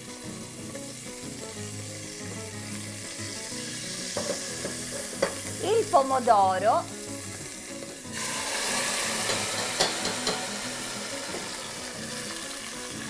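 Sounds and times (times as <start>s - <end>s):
puree sizzling in hot oil: 0.0s - 13.0s.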